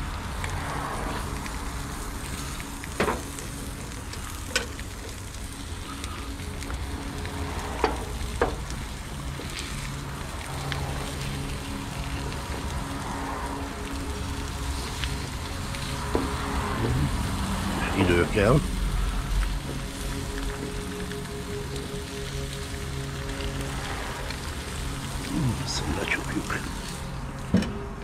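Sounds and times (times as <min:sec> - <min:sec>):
food sizzling on a griddle: 0:00.0 - 0:27.5.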